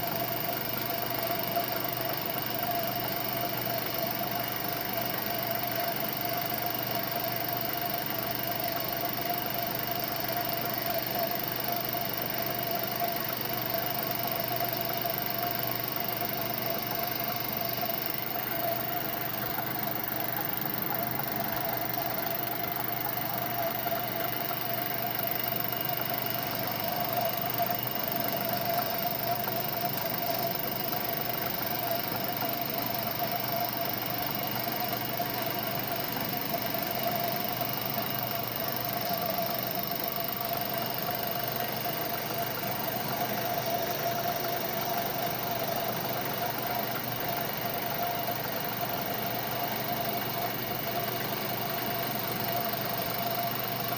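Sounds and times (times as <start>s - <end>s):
lathe humming and whining: 0.0s - 53.9s.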